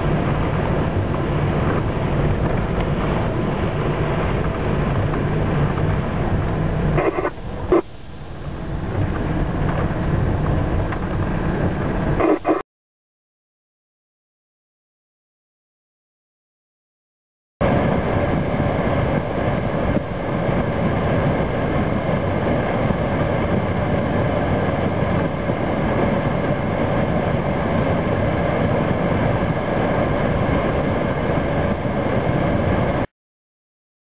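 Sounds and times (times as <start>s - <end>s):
loud steady rushing noise: 0.0s - 12.6s, 17.6s - 33.1s
vehicle engine running: 0.0s - 12.6s, 17.6s - 33.0s.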